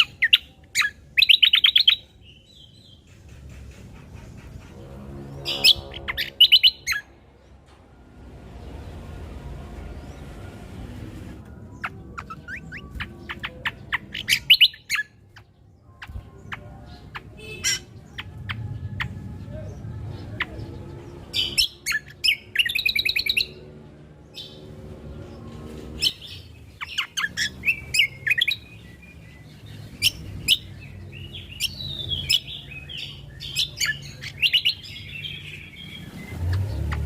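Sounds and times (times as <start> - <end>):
songbird chirping and trilling: 0.0 - 37.0.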